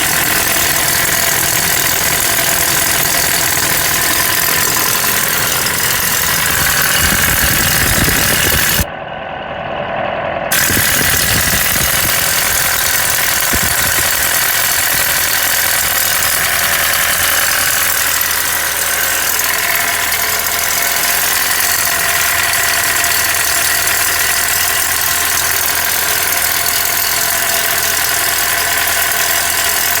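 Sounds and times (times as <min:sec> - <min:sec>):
engine knocking: 0:00.0 - 0:08.9, 0:10.5 - 0:30.0
pickup engine running: 0:00.0 - 0:30.0.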